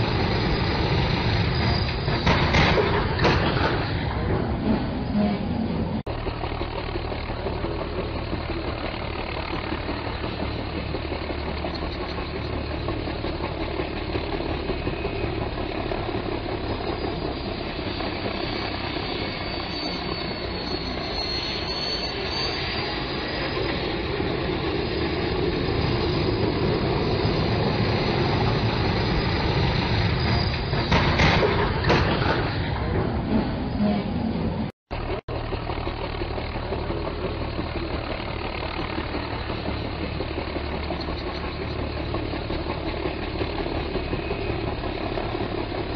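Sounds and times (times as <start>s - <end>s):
engine rumble: 0.0s - 45.9s.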